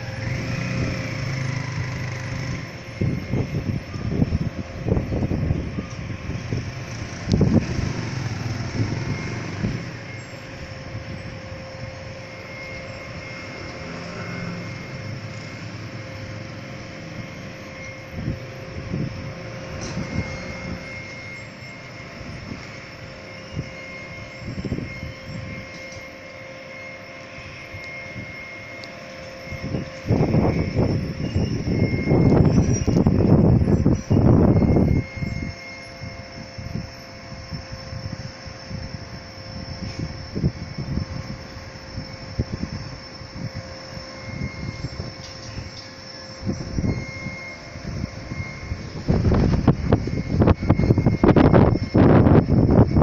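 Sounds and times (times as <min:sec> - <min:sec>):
wind buffeting microphone: 0:00.0 - 0:26.6, 0:27.2 - 0:53.0.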